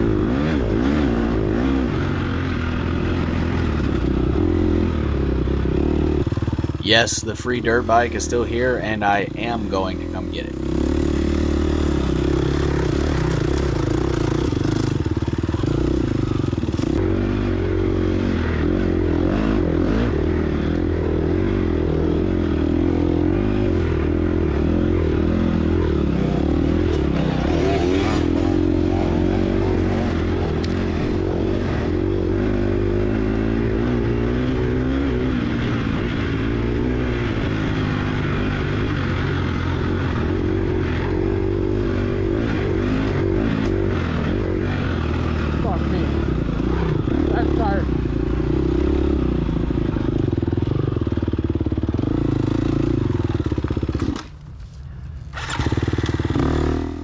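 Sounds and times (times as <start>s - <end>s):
dirt bike engine revving: 0.0s - 54.3s, 55.3s - 57.0s.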